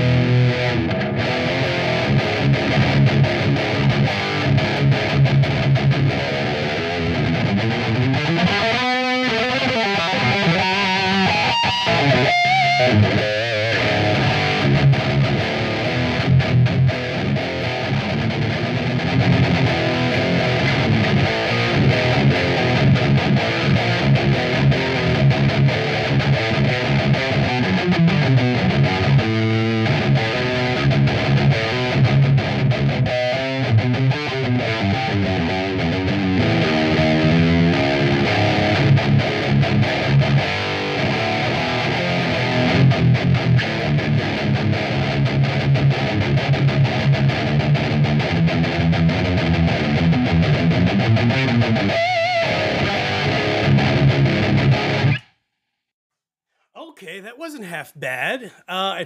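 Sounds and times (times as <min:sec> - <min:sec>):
distorted electric guitar riffs: 0:00.0 - 0:55.2.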